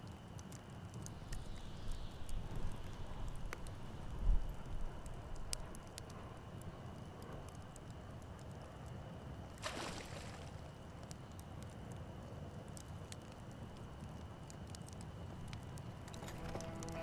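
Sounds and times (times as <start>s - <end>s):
low rumble of wind: 0.0s - 17.0s.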